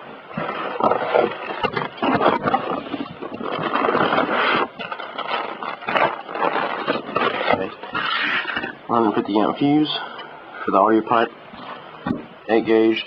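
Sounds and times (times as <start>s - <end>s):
packaging and cables rustling: 0.0s - 13.0s.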